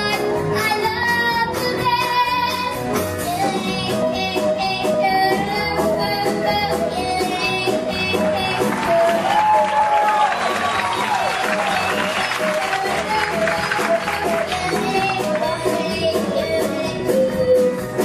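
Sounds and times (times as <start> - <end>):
girl singing into microphone: 0.0 - 9.1, 12.6 - 18.0
live band playing: 0.0 - 18.0.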